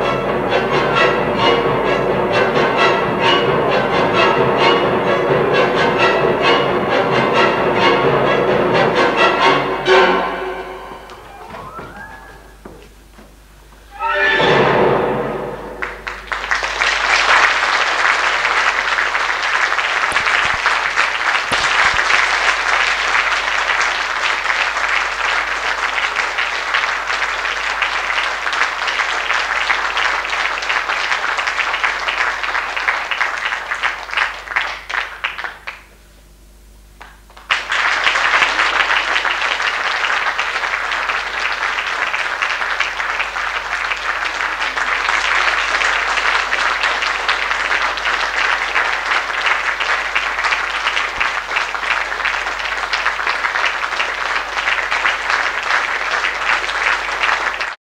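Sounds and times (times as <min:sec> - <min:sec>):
audience applauding: 0:00.0 - 0:13.0, 0:15.4 - 0:36.0, 0:37.0 - 0:57.8.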